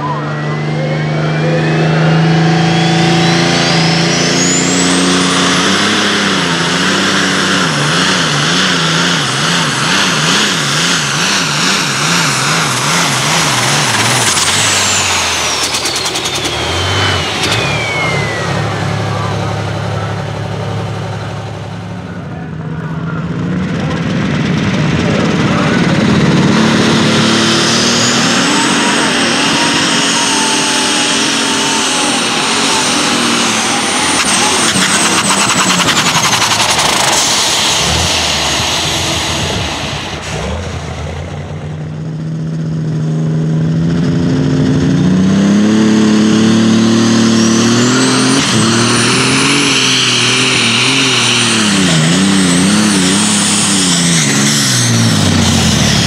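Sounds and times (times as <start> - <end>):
turbocharger whistle: 0.0 - 21.4, 25.1 - 41.8, 45.5 - 56.0
tractor engine at full power: 0.0 - 56.0.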